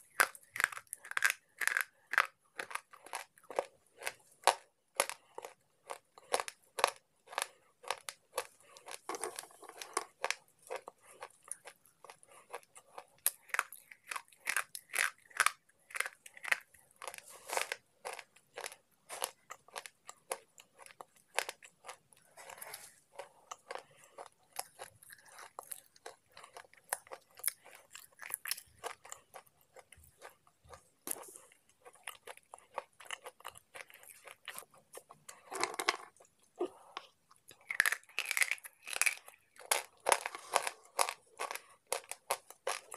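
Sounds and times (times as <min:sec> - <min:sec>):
brittle crunching and chewing: 0:00.0 - 0:42.9.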